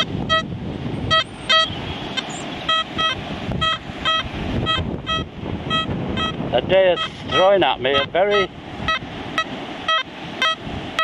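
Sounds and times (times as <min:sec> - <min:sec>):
metal detector beeps: 0:00.0 - 0:00.5, 0:01.1 - 0:11.0
low wind rumble: 0:00.0 - 0:11.0.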